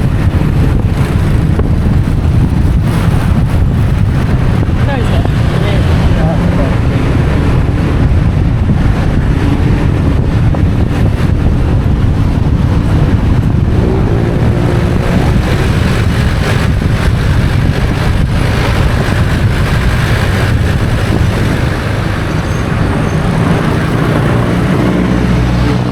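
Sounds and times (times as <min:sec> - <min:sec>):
motorcycle engine running: 0:00.0 - 0:25.9
road and traffic noise: 0:00.0 - 0:25.9
wind buffeting microphone: 0:00.0 - 0:25.9.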